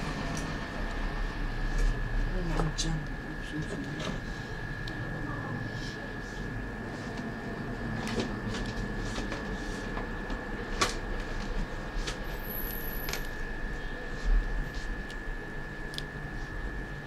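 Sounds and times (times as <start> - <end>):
high-pitched whine: 0.0 - 17.0
low hum: 0.0 - 17.0.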